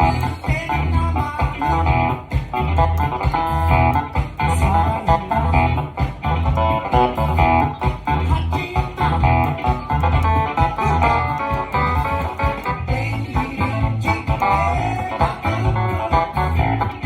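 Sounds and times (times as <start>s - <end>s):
clavinet keyboard: 0.0s - 17.0s
funk-rock band music: 0.0s - 17.0s.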